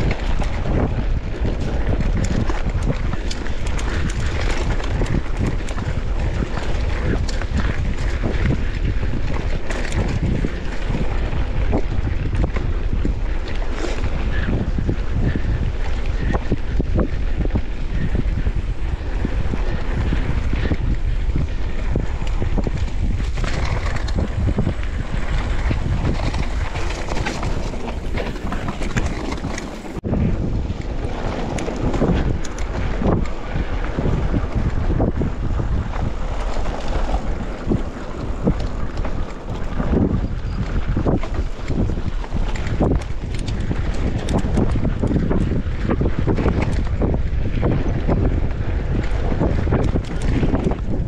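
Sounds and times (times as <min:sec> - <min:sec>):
bike clicks and rattles: 0:00.0 - 0:51.0
wind buffeting microphone: 0:00.0 - 0:51.0.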